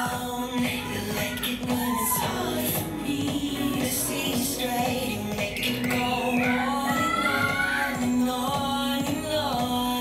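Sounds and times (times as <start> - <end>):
person singing gliding melody: 0.0 - 10.0.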